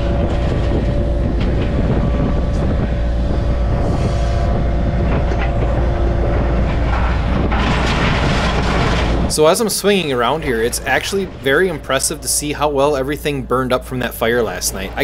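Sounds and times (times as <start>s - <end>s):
diesel engine running: 0.0s - 15.0s
scrap steel clanking: 0.0s - 15.0s.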